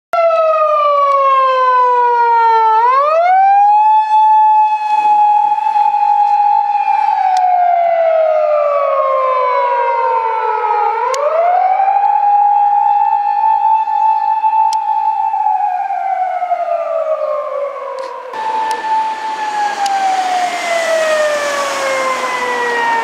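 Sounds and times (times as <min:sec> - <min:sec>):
siren wailing: 0:00.2 - 0:23.0.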